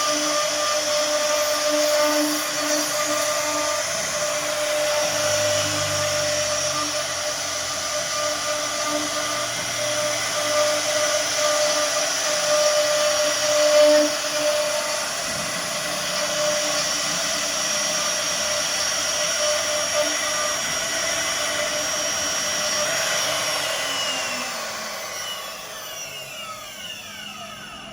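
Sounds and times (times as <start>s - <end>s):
router spindle whining: 0.0s - 27.9s.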